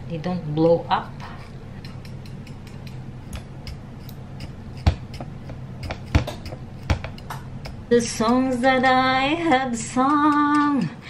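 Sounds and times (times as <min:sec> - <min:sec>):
knife pricking raw potatoes: 0:00.4 - 0:11.0.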